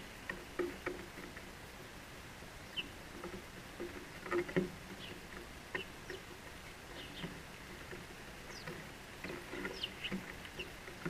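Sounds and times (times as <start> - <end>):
bird feet tapping on wood: 0.2 - 1.5, 2.8 - 11.0.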